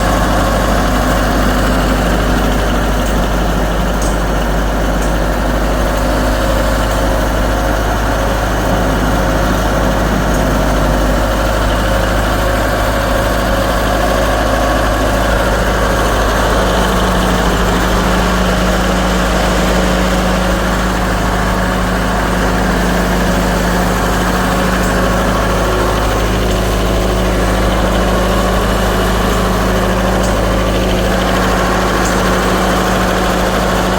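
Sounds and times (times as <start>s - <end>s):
tractor engine idling: 0.0s - 33.9s.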